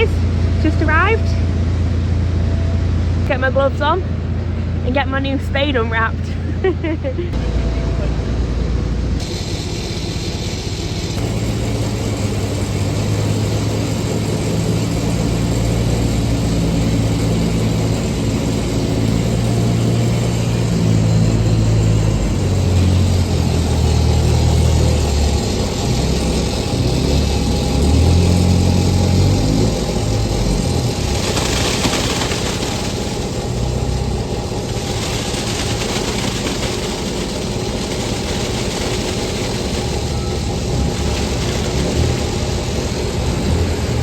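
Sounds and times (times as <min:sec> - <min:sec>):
heavy diesel engine revving: 0:00.0 - 0:44.0.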